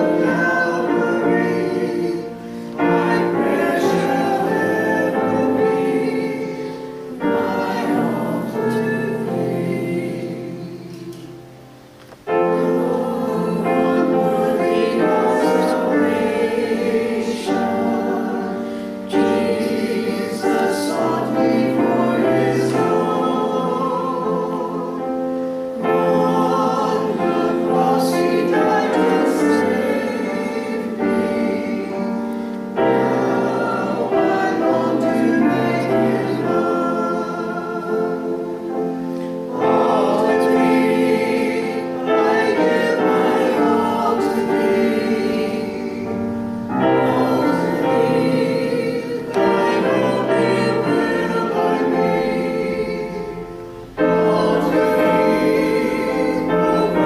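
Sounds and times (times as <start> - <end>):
congregation singing a hymn: 0.0 - 57.0
piano accompaniment: 0.0 - 57.0.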